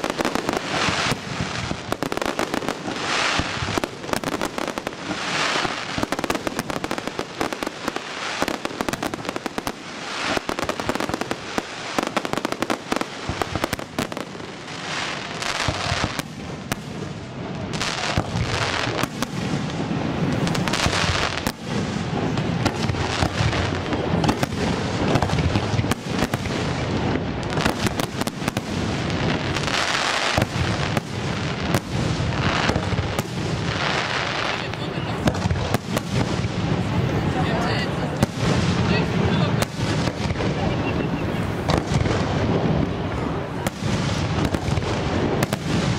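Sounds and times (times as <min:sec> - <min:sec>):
crackling firework glitter: 0:00.0 - 0:45.9.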